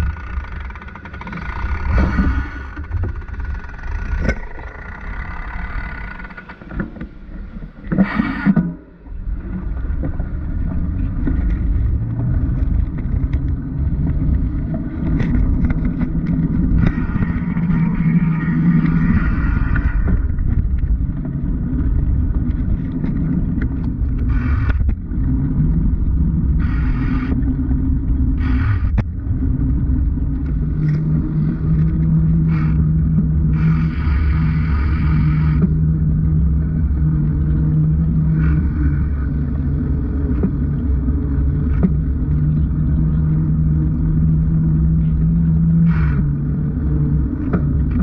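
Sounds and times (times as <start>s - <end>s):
bicycle rolling on road: 0.0s - 7.8s, 9.1s - 48.0s.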